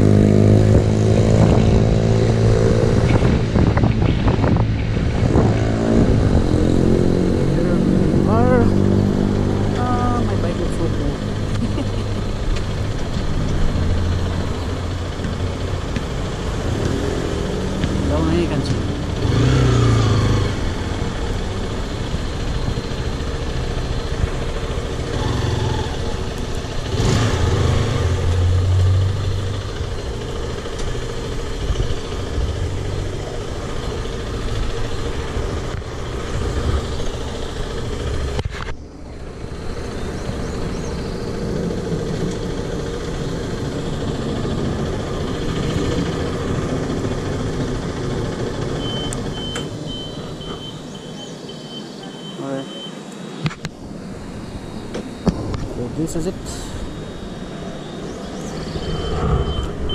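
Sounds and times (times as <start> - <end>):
motorcycle engine running: 0.0 - 51.4, 53.4 - 59.9
wind and road noise: 0.0 - 59.9.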